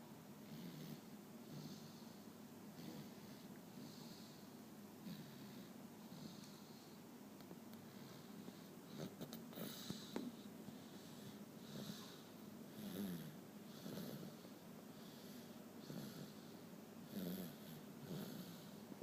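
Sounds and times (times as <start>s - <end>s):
toddler snoring: 0.4s - 7.0s, 7.9s - 18.8s.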